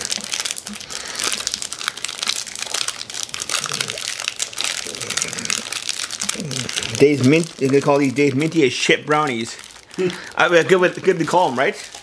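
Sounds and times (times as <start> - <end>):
wrapper crinkling: 0.0 - 12.0.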